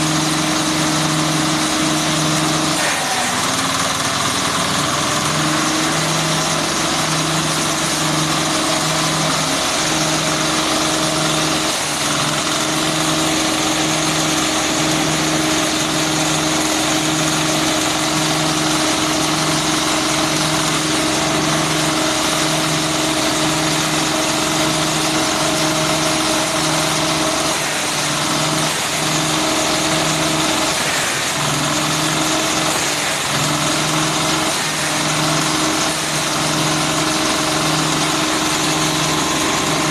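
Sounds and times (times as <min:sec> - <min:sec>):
diesel engine pulsing: 0:00.0 - 0:39.9.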